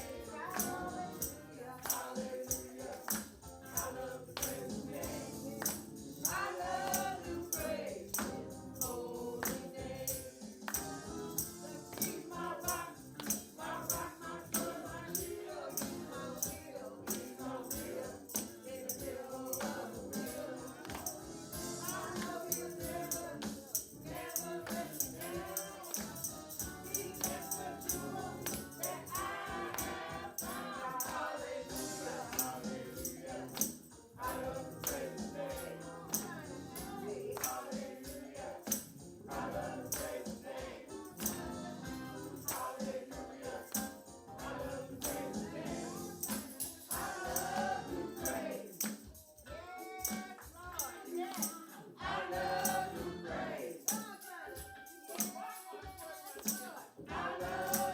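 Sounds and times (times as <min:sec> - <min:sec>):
tambourine beat: 0:00.0 - 0:57.9
voices singing gospel: 0:00.0 - 0:57.9.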